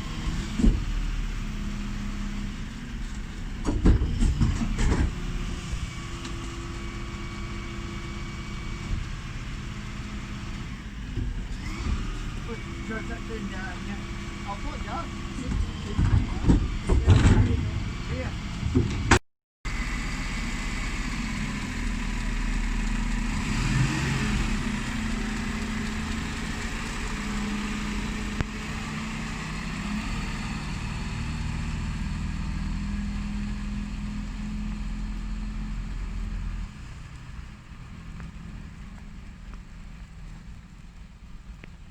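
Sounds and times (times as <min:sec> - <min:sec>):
diesel lorry engine running: 0:00.0 - 0:41.9.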